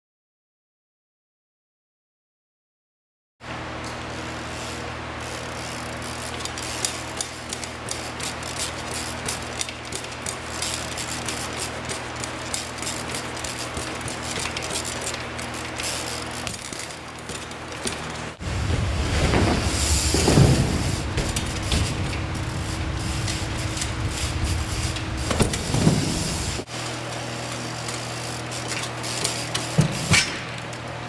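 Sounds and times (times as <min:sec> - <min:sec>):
steady low hum: 0:03.5 - 0:31.0
bike clicks and rattles: 0:03.8 - 0:31.0
bike tyres hissing on concrete: 0:03.9 - 0:26.9, 0:27.5 - 0:30.6.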